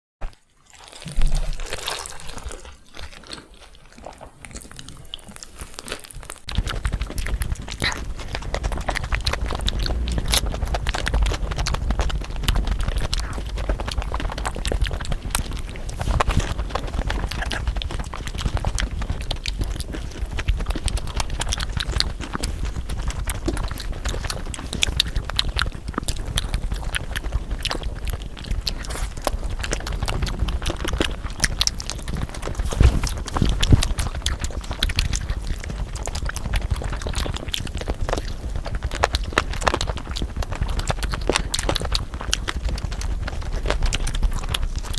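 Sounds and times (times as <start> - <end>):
chewing mouth sounds: 0.2 - 44.9.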